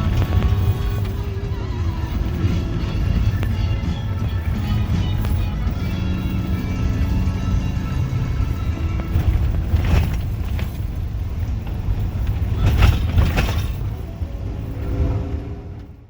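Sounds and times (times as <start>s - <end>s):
blizzard wind buffeting microphone: 0.0s - 16.0s.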